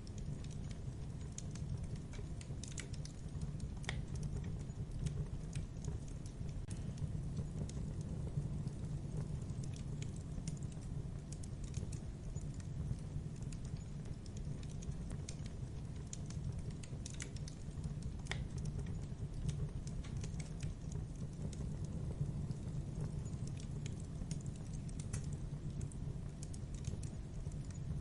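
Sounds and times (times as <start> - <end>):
bonfire crackling and popping: 0.0 - 28.0
low rumble of burning: 0.0 - 28.0.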